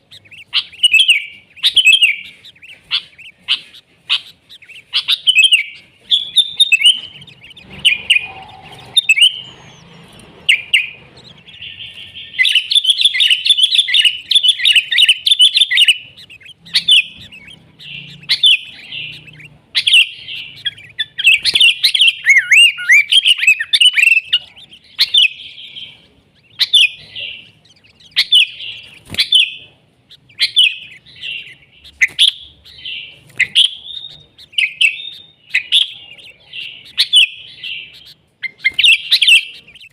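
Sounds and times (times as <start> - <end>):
bird rapid chattering: 0.0 - 39.9
bird singing chirpy phrases: 0.0 - 39.9.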